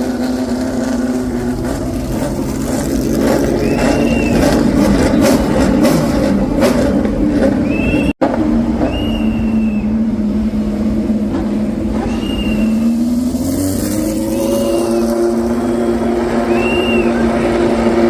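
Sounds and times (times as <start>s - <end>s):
racing car engines droning: 0.0s - 18.0s.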